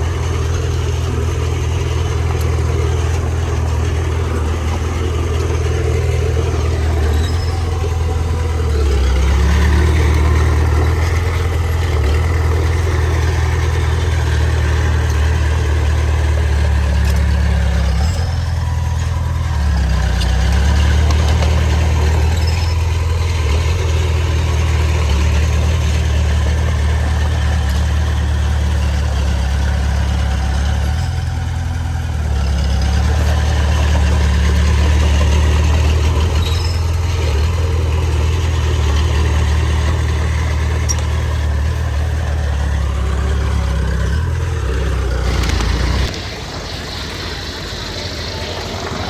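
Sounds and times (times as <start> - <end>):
heavy diesel engine droning: 0.0 - 49.0.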